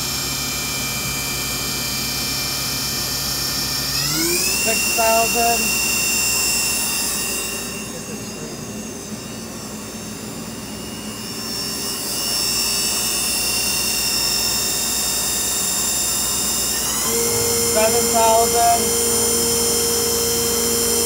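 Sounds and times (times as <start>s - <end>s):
lathe spindle whine: 0.0s - 21.0s.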